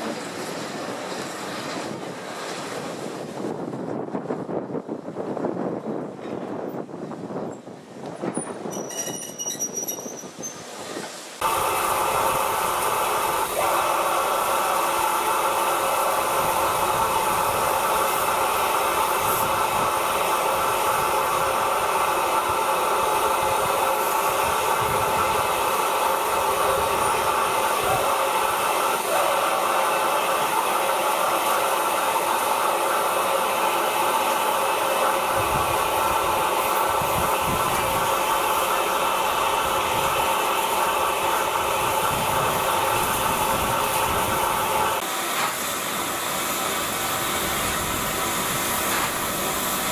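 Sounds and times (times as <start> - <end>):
steam hissing: 9.7 - 49.9.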